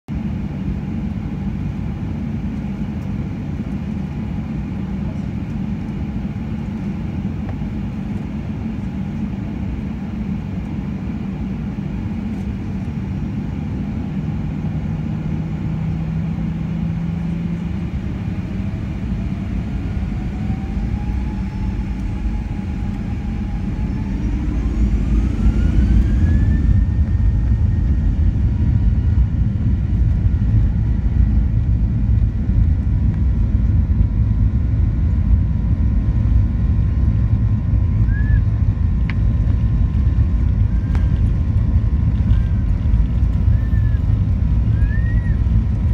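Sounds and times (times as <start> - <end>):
jet engine rumble in cabin: 0.1 - 45.9
jet engine whine rising: 0.1 - 45.9.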